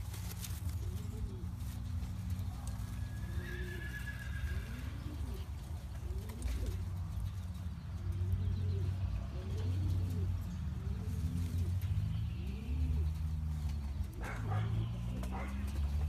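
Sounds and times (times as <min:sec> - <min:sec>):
pigeon cooing: 0:00.0 - 0:16.0.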